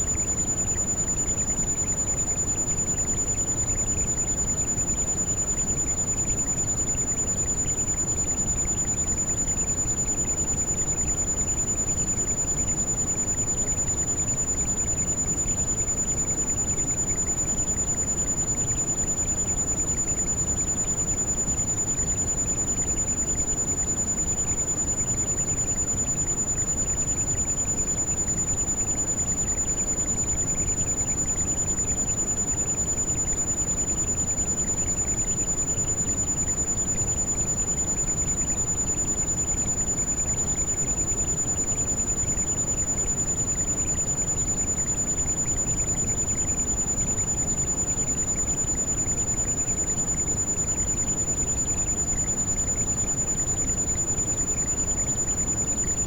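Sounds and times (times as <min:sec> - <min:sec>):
high-pitched ringing tone: 0:00.0 - 0:56.0.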